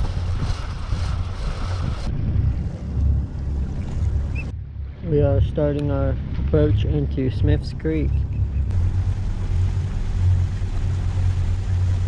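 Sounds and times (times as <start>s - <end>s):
low rumble with hiss: 0.0s - 12.0s.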